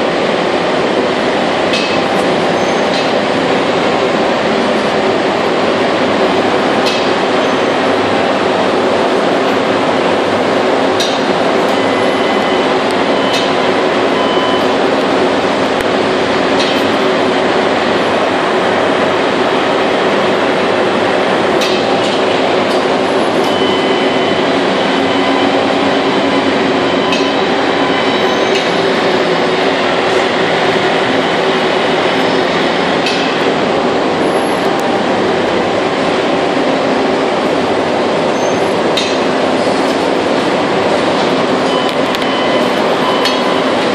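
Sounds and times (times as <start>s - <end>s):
loud machine noise: 0.0s - 43.9s.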